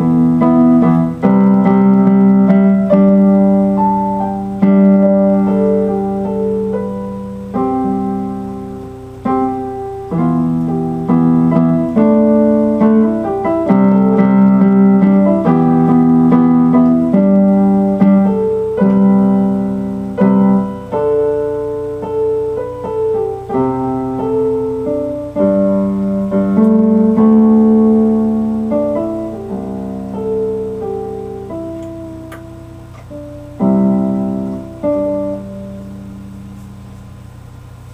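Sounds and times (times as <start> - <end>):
slow piano chords: 0.0 - 37.9.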